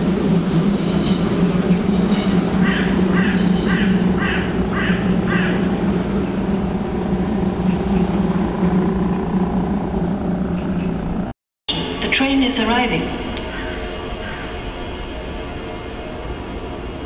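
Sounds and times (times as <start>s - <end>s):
train humming: 0.0s - 17.0s.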